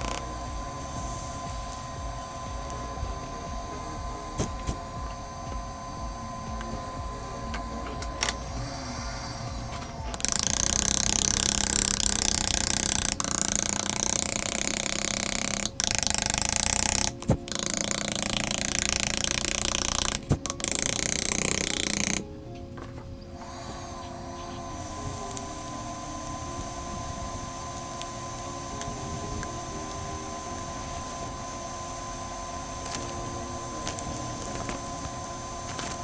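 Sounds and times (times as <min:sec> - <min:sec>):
grinding tool on glass: 0:00.0 - 0:22.2, 0:23.4 - 0:36.0.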